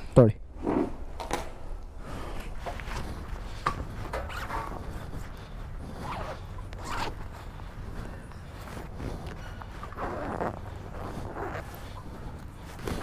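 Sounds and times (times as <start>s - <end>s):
jacket fabric rustling: 2.2s - 13.0s.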